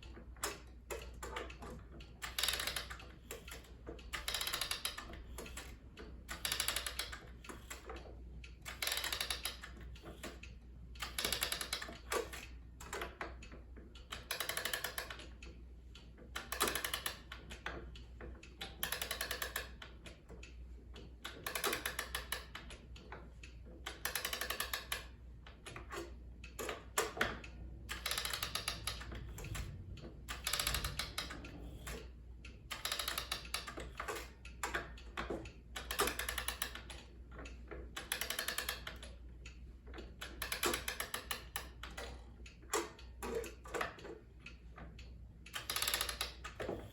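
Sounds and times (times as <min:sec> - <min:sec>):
clock winding ratchet clicks: 0:00.0 - 0:46.9.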